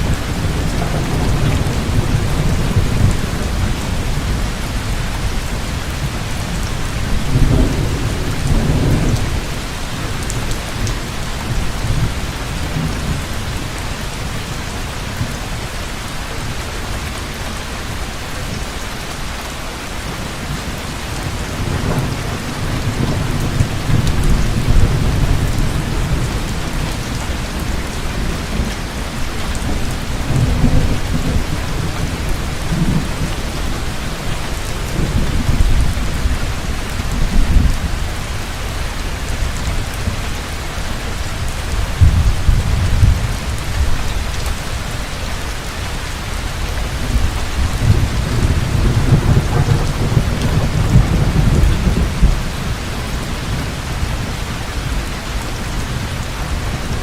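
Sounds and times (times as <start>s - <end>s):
thunder rumbling: 0.0s - 14.6s, 20.2s - 45.0s, 46.4s - 57.0s
heavy rain: 0.0s - 57.0s.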